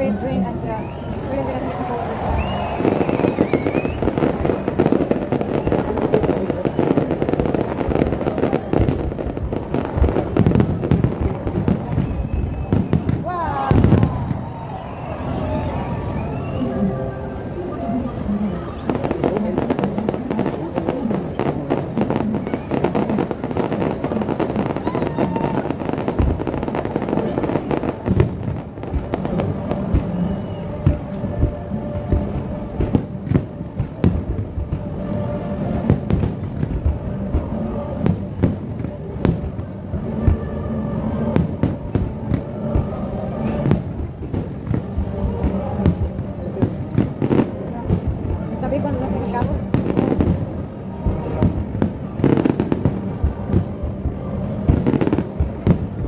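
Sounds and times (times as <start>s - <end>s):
fireworks crackling pops: 0.2s - 16.6s, 18.8s - 56.0s.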